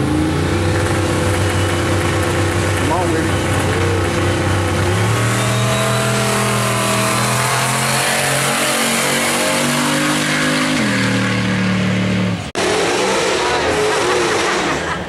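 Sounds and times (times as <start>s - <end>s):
truck engine accelerating hard: 0.0s - 15.0s.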